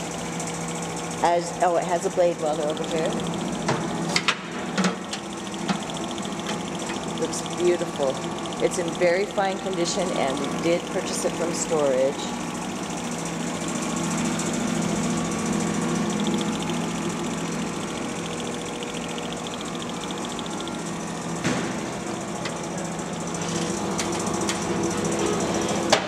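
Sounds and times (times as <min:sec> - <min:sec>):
band saw running with even hum: 0:00.0 - 0:26.0.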